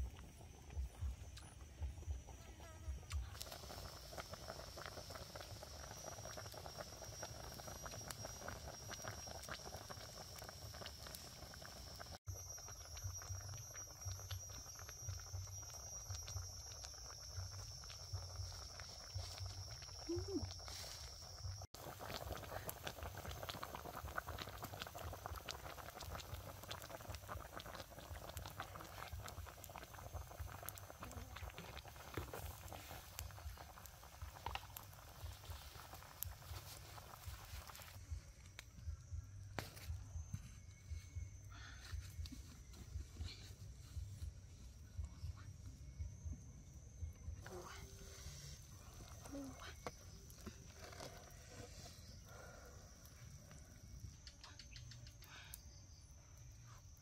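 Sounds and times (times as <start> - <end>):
soup bubbling in a pot: 3.2 - 39.2, 46.0 - 57.0
wood fire crackling: 3.2 - 45.1, 47.4 - 57.0.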